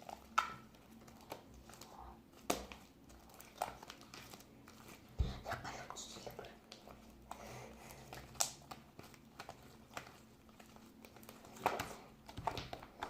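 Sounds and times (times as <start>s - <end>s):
crinkling: 0.0s - 13.0s.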